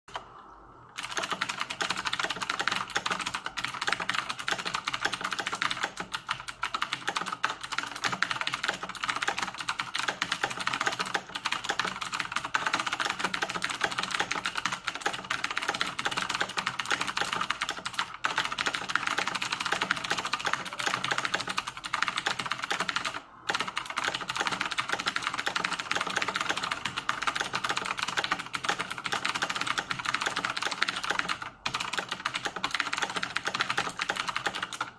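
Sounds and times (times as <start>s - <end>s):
fast mechanical keyboard typing: 1.0s - 34.9s.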